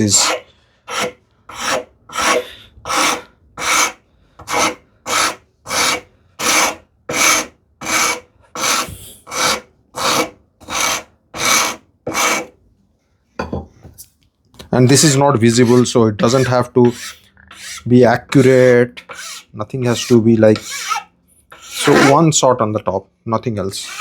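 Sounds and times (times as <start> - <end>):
hand file scraping wood: 0.0 - 12.6, 14.9 - 22.2, 23.7 - 24.0.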